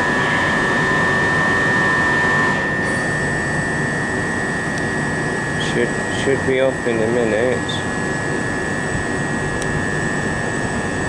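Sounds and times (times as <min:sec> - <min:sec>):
electric train hum: 0:00.0 - 0:11.0
high steady whine: 0:00.0 - 0:11.0
lower whine: 0:00.0 - 0:11.0.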